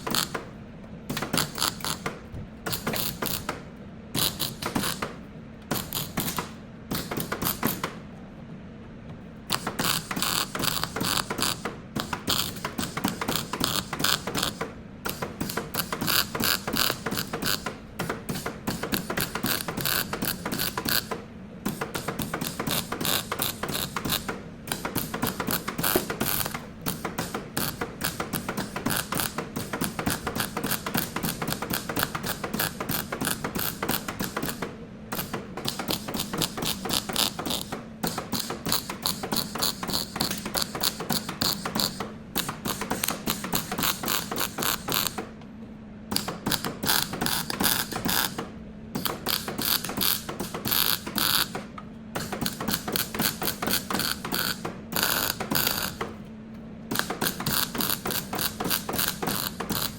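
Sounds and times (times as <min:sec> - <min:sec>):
ratchet wrench clicking: 0:00.0 - 0:00.4, 0:01.1 - 0:02.1, 0:02.7 - 0:03.5, 0:04.2 - 0:05.1, 0:05.7 - 0:07.9, 0:09.5 - 0:45.2, 0:46.1 - 0:48.4, 0:49.0 - 0:51.6, 0:52.2 - 0:56.2, 0:56.9 - 0:59.9.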